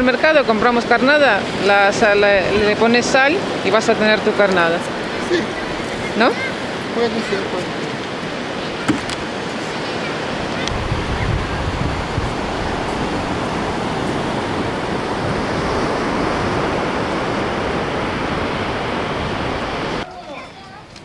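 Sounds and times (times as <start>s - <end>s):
wind buffeting microphone: 0.0s - 20.0s
sea surf washing on beach: 0.0s - 21.0s.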